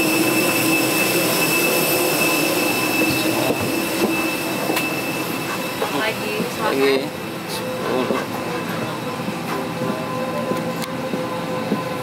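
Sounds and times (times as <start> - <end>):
air conditioning rushing and whining: 0.0 - 12.0.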